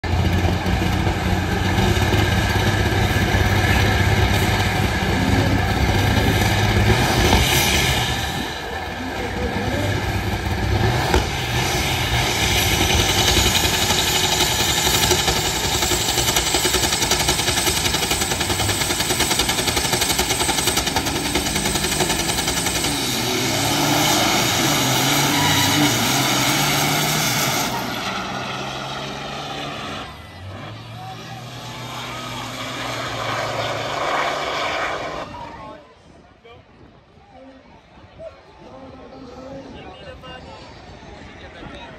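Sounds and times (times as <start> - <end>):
truck diesel engines revving: 0.0 - 35.8.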